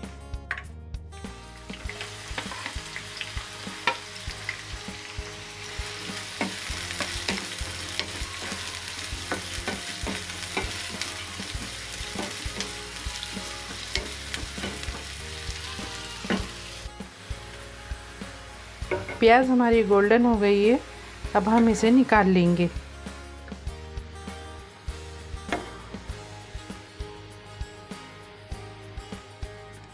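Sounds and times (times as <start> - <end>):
onions sizzling in oil: 1.3 - 29.9.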